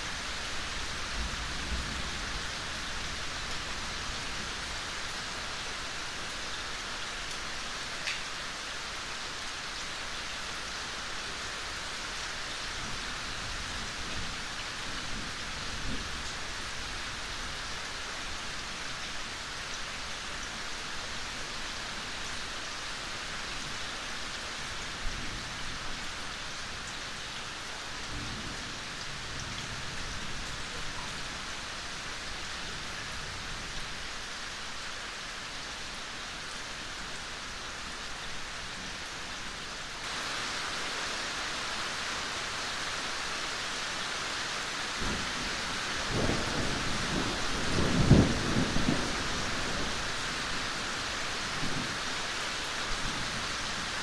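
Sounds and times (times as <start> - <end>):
gentle rain in a forest: 0.0 - 54.0.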